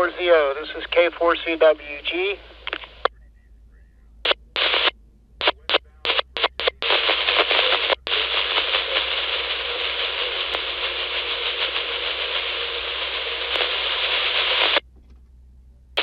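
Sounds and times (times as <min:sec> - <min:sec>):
radio static hiss: 0:00.0 - 0:14.8.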